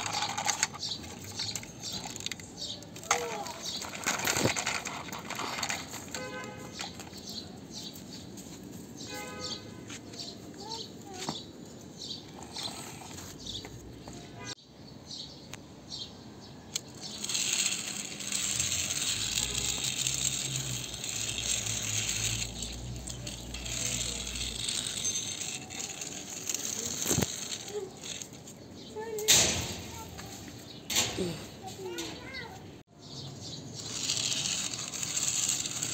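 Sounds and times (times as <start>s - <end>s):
toy car wheels rolling on concrete: 0.0s - 14.6s, 16.4s - 35.9s.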